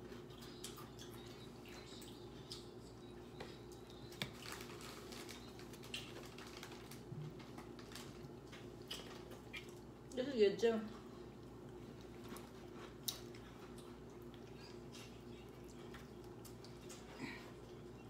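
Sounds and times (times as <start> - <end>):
wet chewing clicks: 0.0 - 10.2, 11.0 - 18.0
low steady hum: 0.0 - 18.0.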